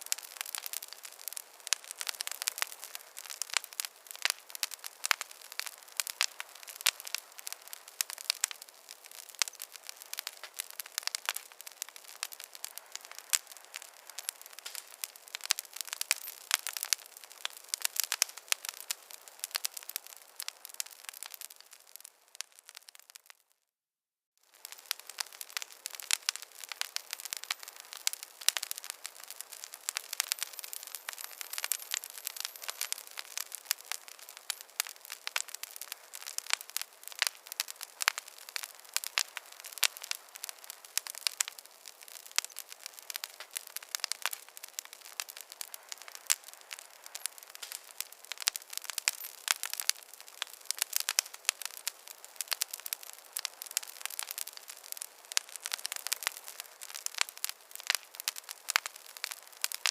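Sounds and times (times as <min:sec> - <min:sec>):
wood fire crackling: 0:00.0 - 0:23.4, 0:24.5 - 0:59.9.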